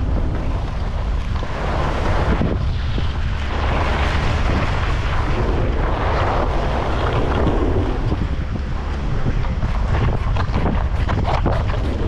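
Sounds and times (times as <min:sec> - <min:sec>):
skis scraping over icy snow: 0:00.0 - 0:12.0
wind buffeting microphone: 0:00.0 - 0:12.0.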